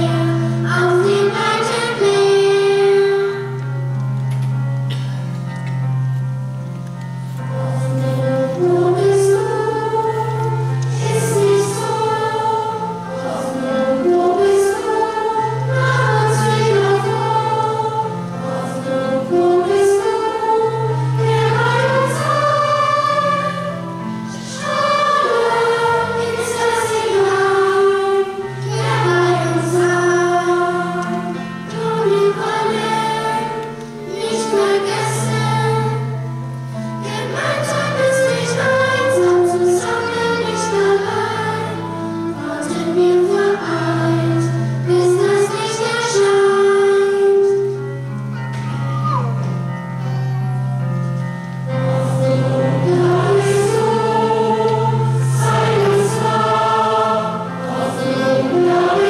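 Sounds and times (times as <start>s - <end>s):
children's choir singing: 0.0s - 4.0s, 7.2s - 50.9s, 51.5s - 59.0s
low accompanying notes: 0.0s - 59.0s.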